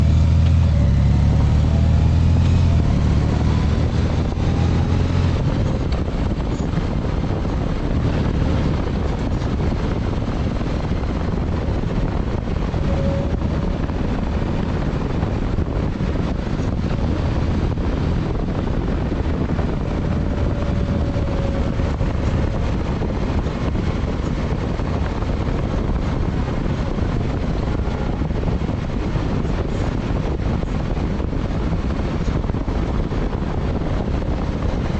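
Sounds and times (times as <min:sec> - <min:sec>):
motorcycle engine drone: 0:00.0 - 0:34.9
wind noise on microphone: 0:00.0 - 0:34.9.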